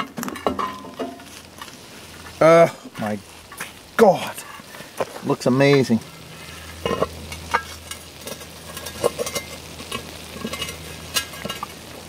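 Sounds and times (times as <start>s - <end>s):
food sizzling and crackling in a pot: 0.0s - 12.0s.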